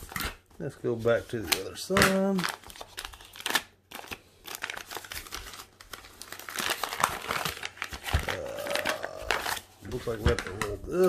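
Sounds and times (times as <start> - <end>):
envelope crinkling and rustling: 0.0 - 11.0.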